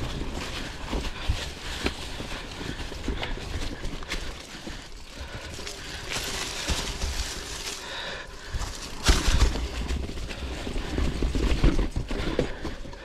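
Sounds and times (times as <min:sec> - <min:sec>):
tyres crunching through dry leaves: 0:00.0 - 0:12.9
bike knocking and rattling: 0:00.0 - 0:13.0.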